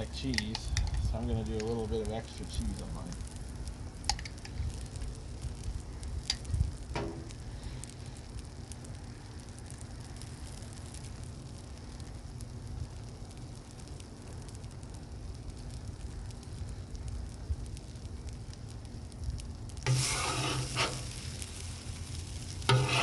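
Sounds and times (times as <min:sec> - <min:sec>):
food sizzling on a griddle: 0:00.0 - 0:23.0.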